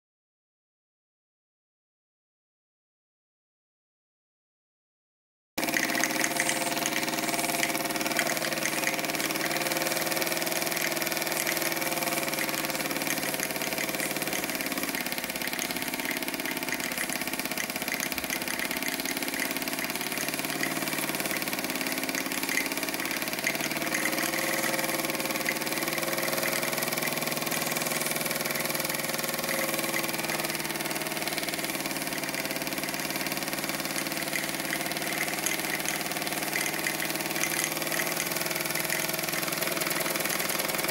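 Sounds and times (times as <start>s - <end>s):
model steam engine running: 5.6s - 40.9s.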